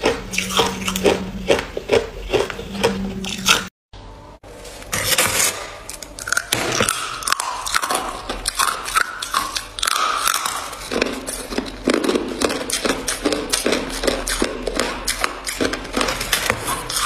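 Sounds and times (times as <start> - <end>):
ice being chewed: 0.0 - 3.7, 5.9 - 17.0.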